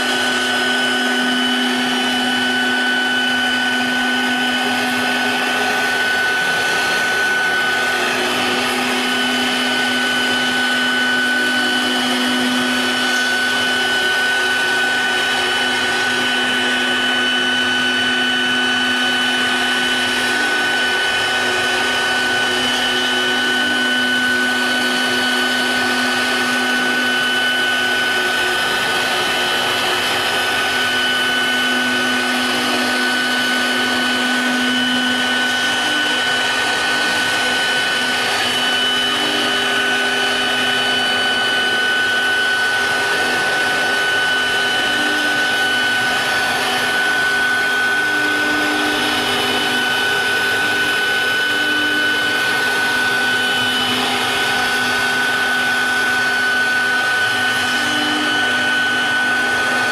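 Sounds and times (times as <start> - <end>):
router bit carving foam: 0.0 - 59.9
router spindle motor whine: 0.0 - 59.9.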